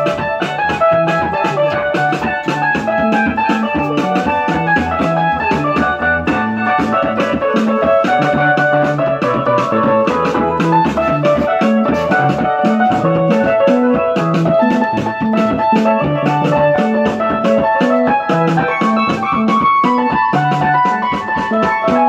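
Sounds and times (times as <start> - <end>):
electronic keyboard dance music: 0.0 - 22.0.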